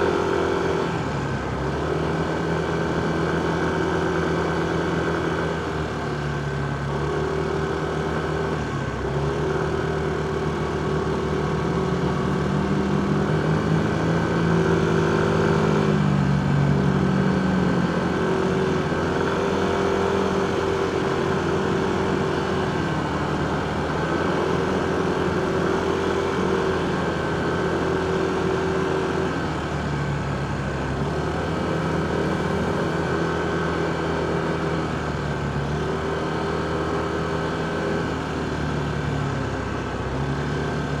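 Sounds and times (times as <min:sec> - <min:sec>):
road and traffic noise: 0:00.0 - 0:41.0.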